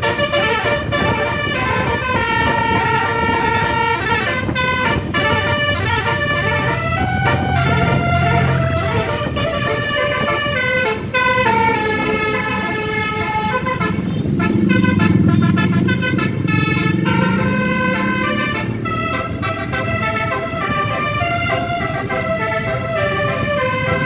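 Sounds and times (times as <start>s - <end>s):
bus air horn melody: 0.0s - 24.0s
bus engine rumble: 0.0s - 24.0s.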